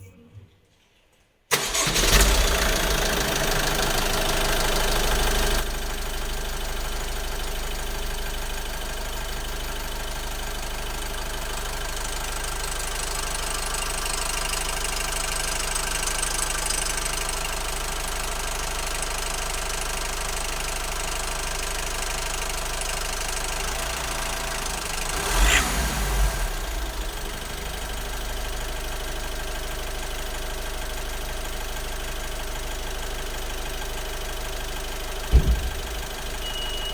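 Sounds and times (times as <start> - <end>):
diesel car engine starting and idling: 1.5 - 36.9.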